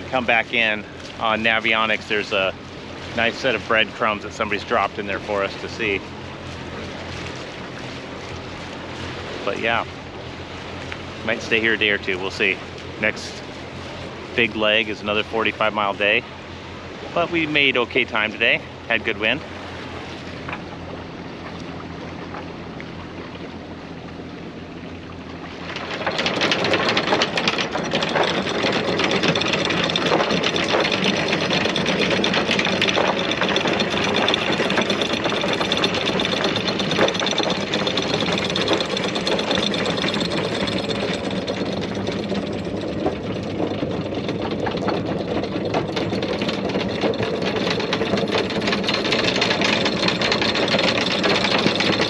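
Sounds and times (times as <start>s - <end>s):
diesel engine clattering: 0.0s - 24.4s, 25.2s - 52.0s.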